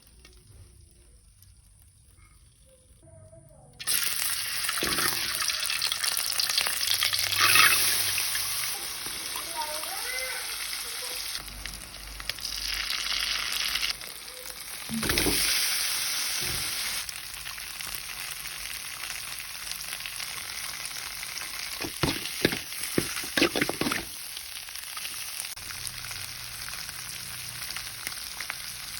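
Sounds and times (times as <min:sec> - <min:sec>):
food sizzling in hot oil: 0:03.8 - 0:28.9.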